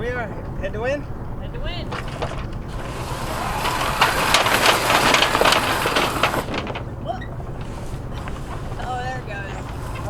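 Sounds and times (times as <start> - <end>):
sail rustling and flapping: 1.1 - 10.0
clattering rattles: 1.6 - 10.0.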